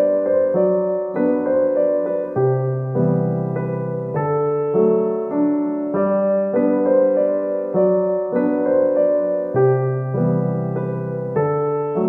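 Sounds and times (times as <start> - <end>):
keyboard playing chords: 0.0 - 12.0.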